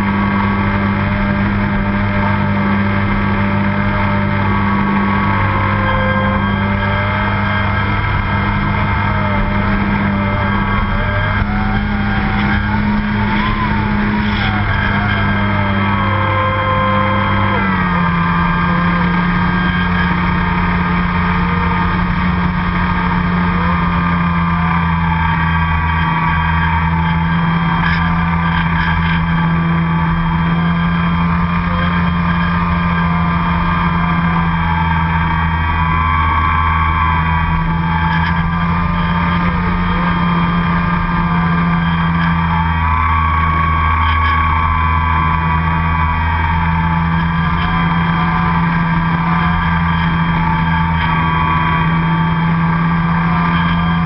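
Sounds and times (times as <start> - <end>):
model airplane motor and propeller: 0.0 - 54.0.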